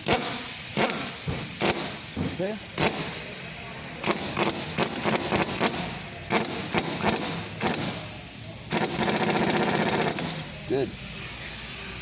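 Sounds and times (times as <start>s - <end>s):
impact wrench rattling: 0.0s - 10.9s.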